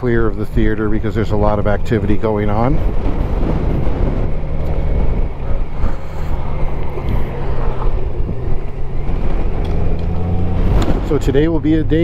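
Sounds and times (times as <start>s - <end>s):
motorcycle engine humming: 0.0s - 12.0s
wind rushing over microphone: 0.0s - 12.0s.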